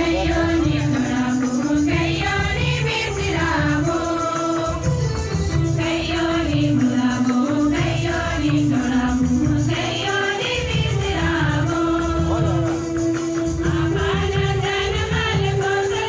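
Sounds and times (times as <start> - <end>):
choir singing a hymn: 0.0 - 16.0
keyboard and rhythm accompaniment: 0.0 - 16.0.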